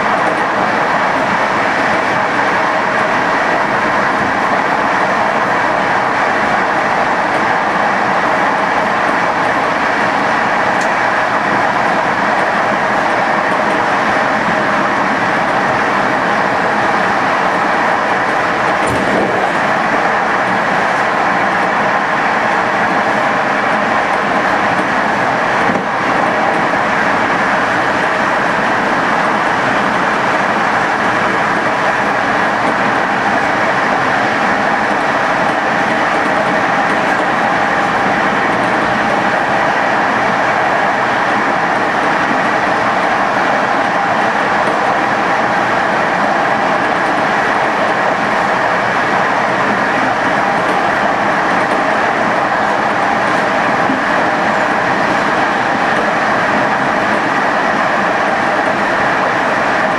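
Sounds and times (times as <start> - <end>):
train wheels rolling on track: 0.0 - 59.9.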